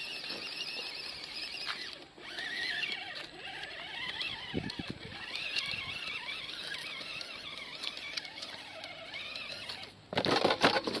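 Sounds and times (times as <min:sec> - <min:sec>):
electric motor and gearbox whining: 0:00.0 - 0:11.0.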